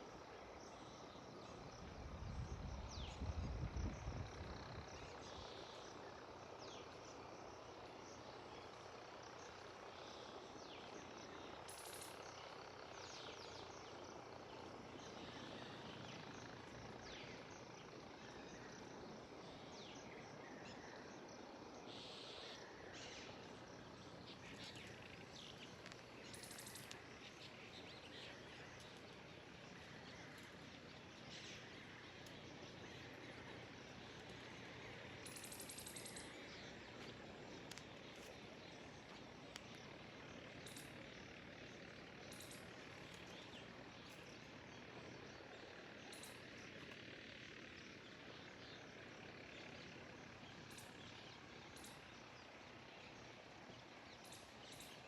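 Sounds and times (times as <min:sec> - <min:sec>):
low steady hiss: 0:00.0 - 0:55.0.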